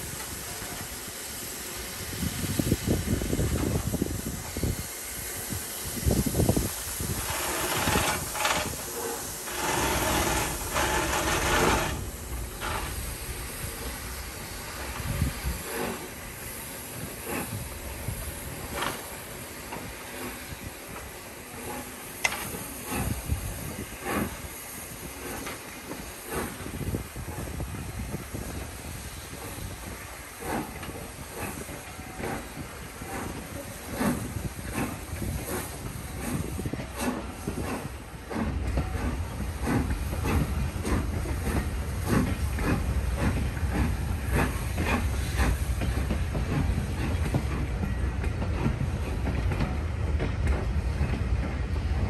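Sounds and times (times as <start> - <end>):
hissing steam: 0.0 - 52.0
steam locomotive exhaust beats: 0.0 - 52.0.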